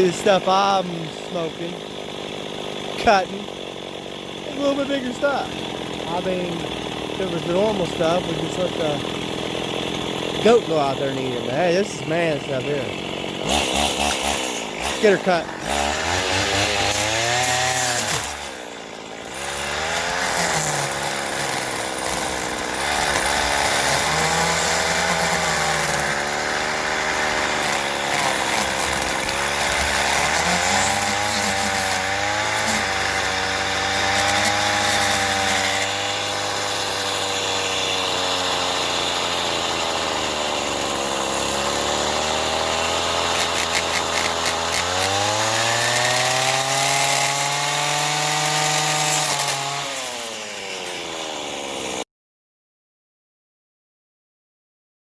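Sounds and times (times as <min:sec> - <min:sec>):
two-stroke trimmer engine cutting weeds: 0:00.0 - 0:52.0.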